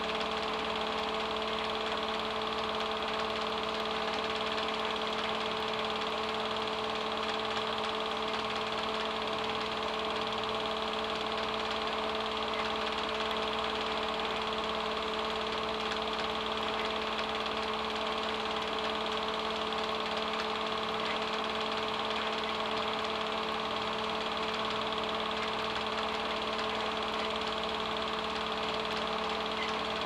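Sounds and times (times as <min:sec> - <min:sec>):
film projector whirring: 0:00.0 - 0:30.0.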